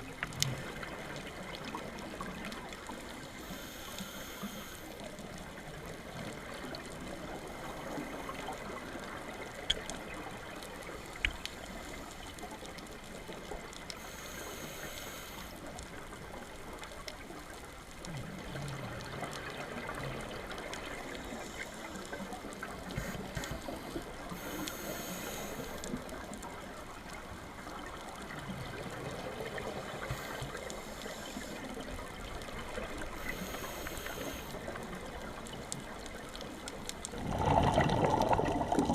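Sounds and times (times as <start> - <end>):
underwater crackling hiss: 0.0 - 38.9.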